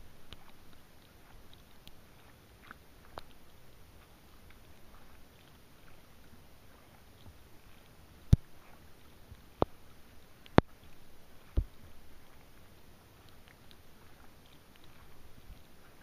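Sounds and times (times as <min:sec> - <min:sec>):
faint water hiss: 0:00.0 - 0:16.0
light ticks: 0:00.0 - 0:16.0.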